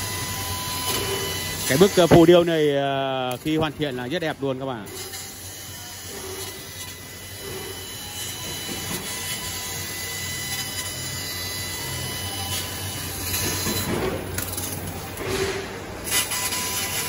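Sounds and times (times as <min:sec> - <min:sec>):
laser cutter hiss and crackle: 0:00.0 - 0:17.0.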